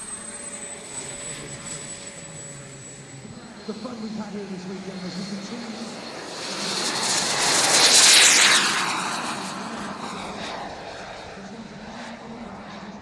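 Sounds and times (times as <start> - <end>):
model jet turbine whine passing: 0.0 - 13.0.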